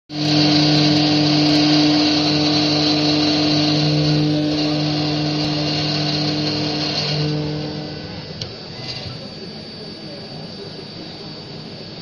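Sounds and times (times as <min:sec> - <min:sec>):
router motor hum and whine: 0:00.1 - 0:12.0.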